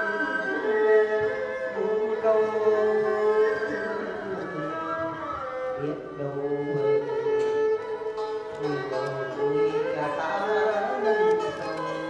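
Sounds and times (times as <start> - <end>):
sliding string melody: 0.0 - 12.0.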